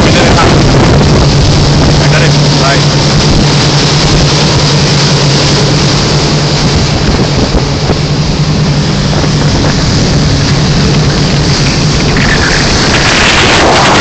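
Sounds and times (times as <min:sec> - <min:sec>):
motorboat engine drone: 0:00.0 - 0:14.0
rush of wind and water: 0:00.0 - 0:14.0.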